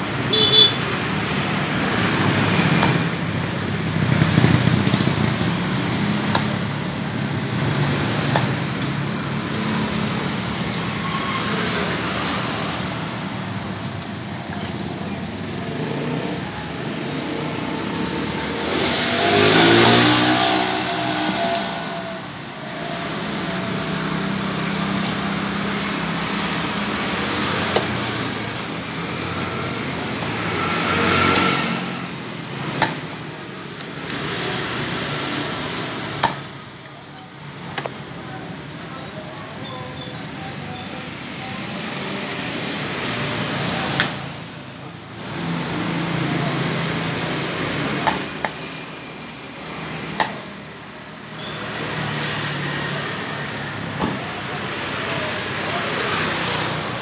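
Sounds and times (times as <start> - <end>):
motor vehicles passing loudly: 0.0 - 57.0
steady traffic noise: 0.0 - 57.0.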